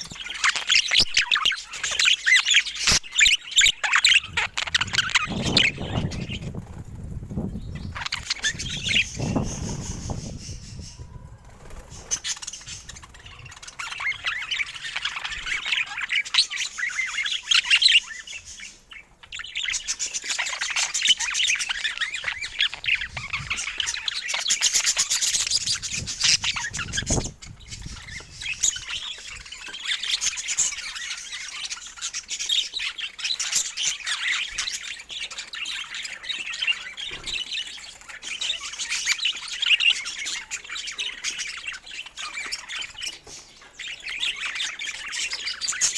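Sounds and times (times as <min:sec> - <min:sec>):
budgerigars chattering and chirping: 0:00.0 - 0:45.9.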